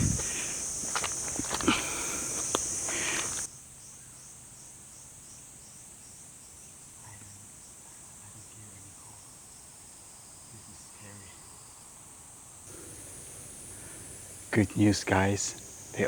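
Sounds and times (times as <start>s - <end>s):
high-pitched insect chorus: 0.0s - 16.0s
quiet pulsing insect call: 0.0s - 16.0s.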